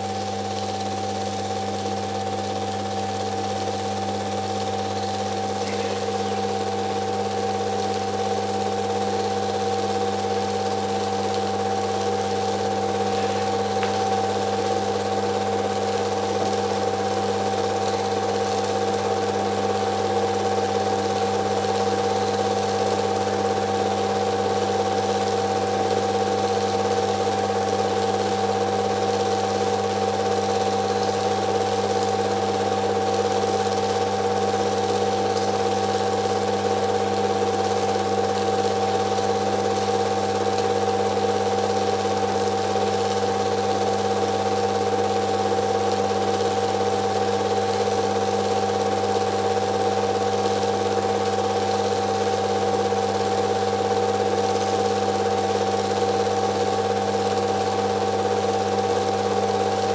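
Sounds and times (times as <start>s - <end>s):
film projector humming: 0.0s - 59.9s.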